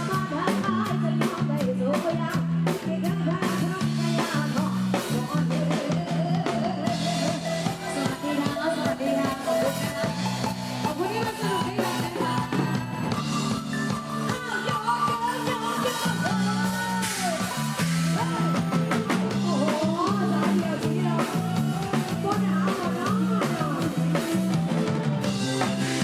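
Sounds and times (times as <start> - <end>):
person singing: 0.0 - 24.9
live band music: 0.0 - 26.0.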